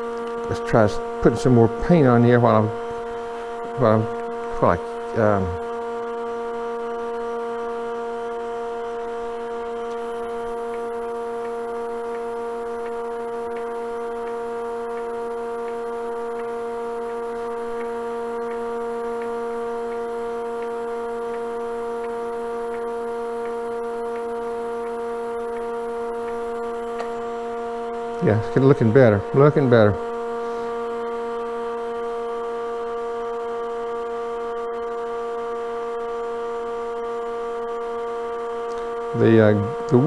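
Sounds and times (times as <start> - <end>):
wood lathe humming: 0.0 - 35.2.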